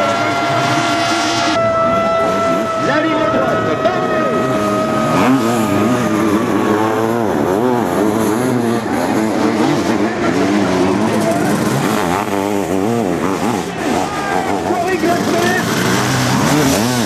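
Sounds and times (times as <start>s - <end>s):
motocross engines racing: 0.0s - 17.0s.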